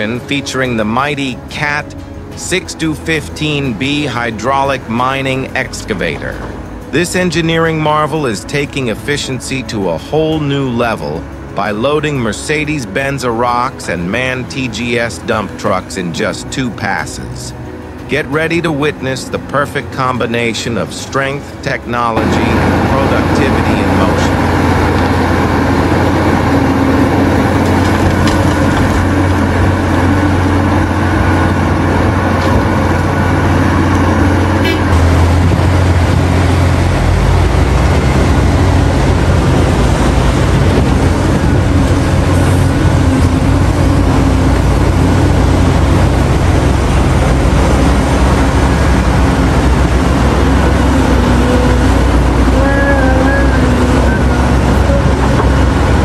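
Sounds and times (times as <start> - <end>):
excavator engine hum: 0.0 - 56.0
wavering hydraulic drone: 0.0 - 56.0.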